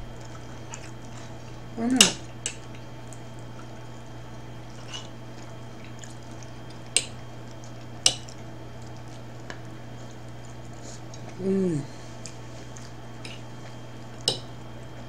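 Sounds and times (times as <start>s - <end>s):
person chewing: 0.0s - 3.8s, 4.6s - 13.8s
steady low hum: 0.0s - 15.0s.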